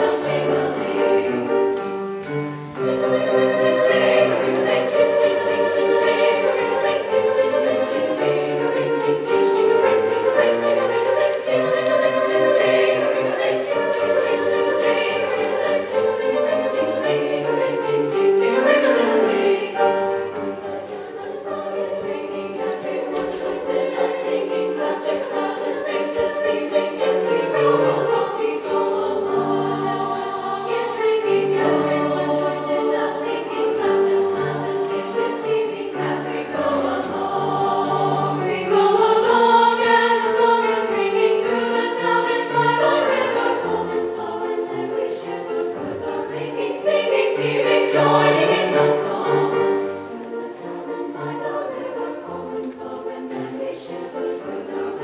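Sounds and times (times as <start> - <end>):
piano accompaniment: 0.0 - 55.0
women's choir singing in harmony: 0.0 - 55.0.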